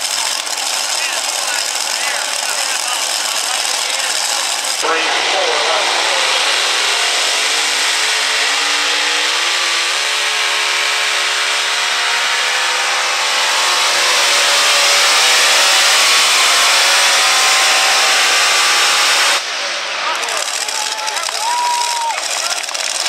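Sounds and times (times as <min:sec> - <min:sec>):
pulling tractor engines roaring: 0:00.0 - 0:23.0.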